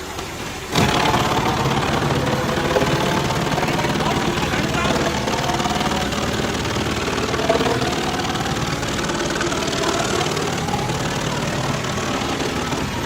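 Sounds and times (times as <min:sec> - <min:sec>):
wood chipper engine running: 0:00.0 - 0:13.0
grinding of chipped logs: 0:00.7 - 0:13.0.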